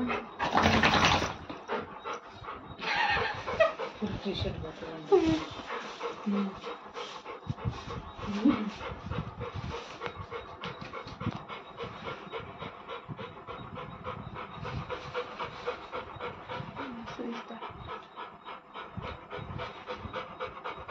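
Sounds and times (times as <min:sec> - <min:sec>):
dog panting rapidly: 0:00.0 - 0:20.9.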